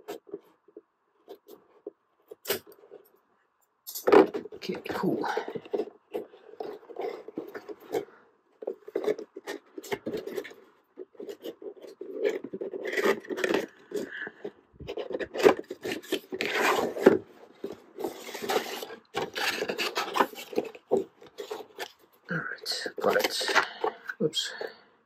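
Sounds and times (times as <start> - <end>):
cardboard scraping and rustling: 4.0 - 24.7.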